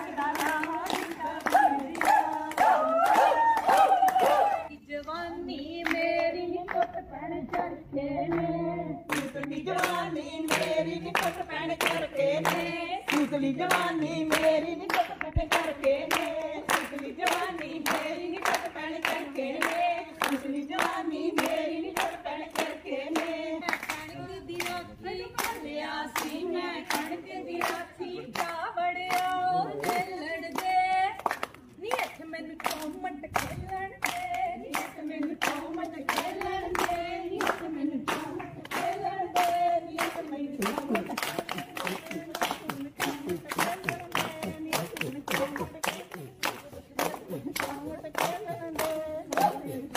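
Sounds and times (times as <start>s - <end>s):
hand clapping: 0.0s - 4.5s, 9.1s - 24.8s, 25.4s - 49.9s
women singing folk song: 0.0s - 49.9s.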